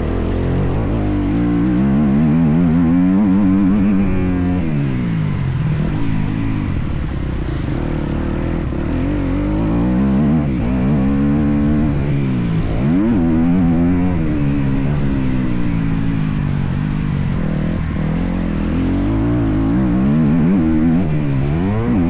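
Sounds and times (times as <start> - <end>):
motorbike engine revving: 0.0 - 22.0.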